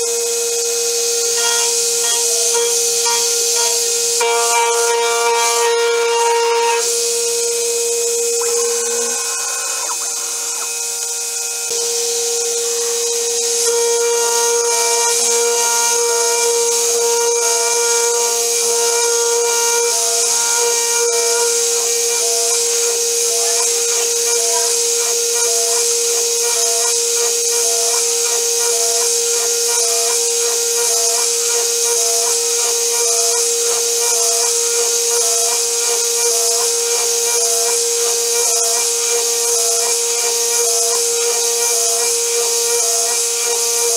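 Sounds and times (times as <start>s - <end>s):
end mill cutting metal: 0.0s - 43.9s
mill spindle whining: 0.0s - 43.9s.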